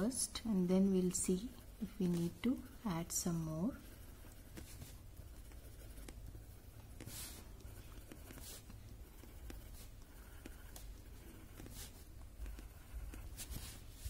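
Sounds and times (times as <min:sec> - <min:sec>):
pencil scratching on paper: 0:00.0 - 0:14.0.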